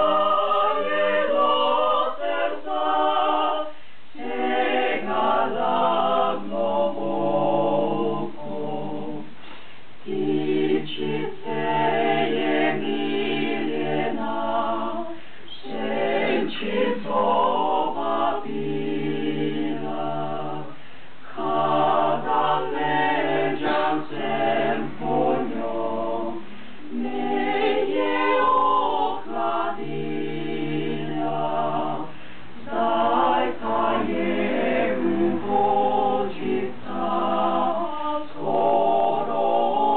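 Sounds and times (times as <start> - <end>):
mixed choir singing a cappella: 0.0 - 39.9.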